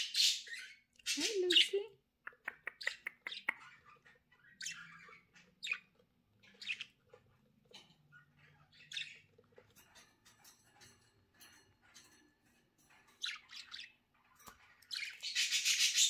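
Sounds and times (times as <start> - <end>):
budgerigars chirping and squawking: 0.0 - 16.0.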